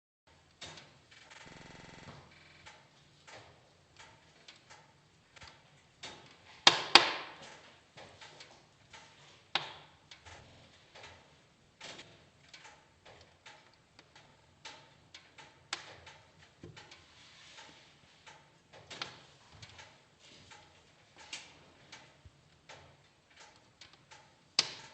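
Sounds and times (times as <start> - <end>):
wood fire crackling and popping: 3.9 - 19.9, 20.7 - 24.9.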